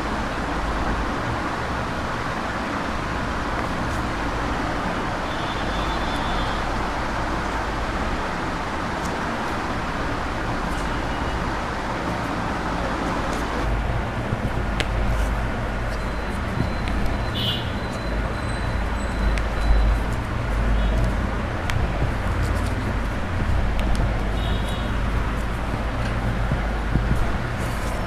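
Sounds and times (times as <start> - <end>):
rushing noise with low rumble: 0.0 - 28.0.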